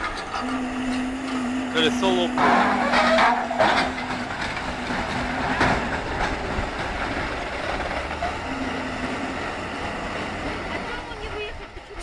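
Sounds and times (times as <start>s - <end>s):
truck engine running under load: 0.0s - 12.0s.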